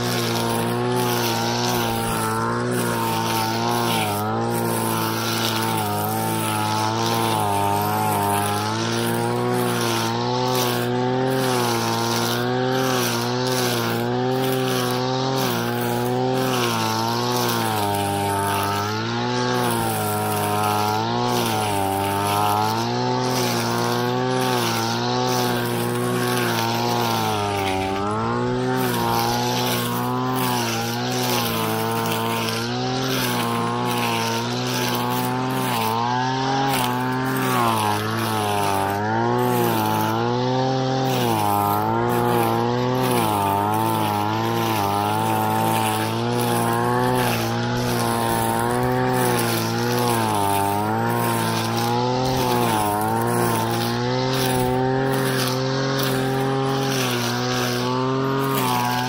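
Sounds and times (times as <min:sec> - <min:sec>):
grass cutter engine running: 0:00.0 - 0:59.0.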